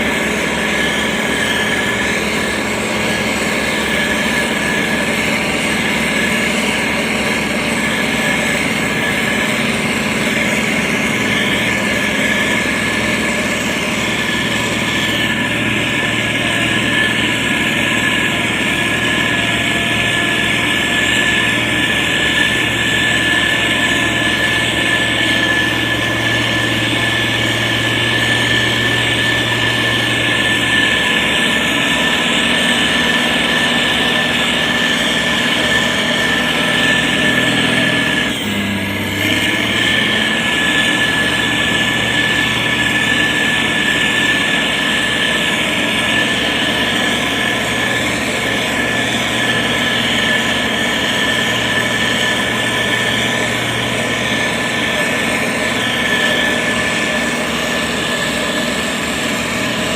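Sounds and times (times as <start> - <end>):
diesel engine running: 0.0 - 59.9
high machine whine: 0.0 - 59.9.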